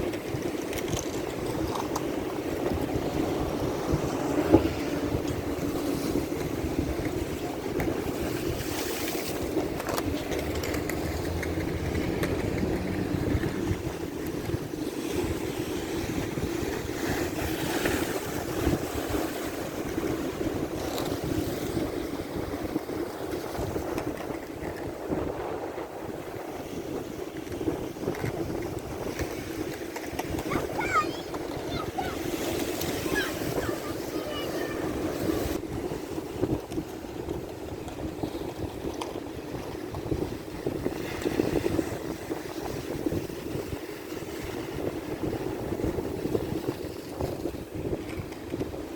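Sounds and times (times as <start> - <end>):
ocean surf: 0.0 - 48.9
wind on microphone: 0.0 - 48.9.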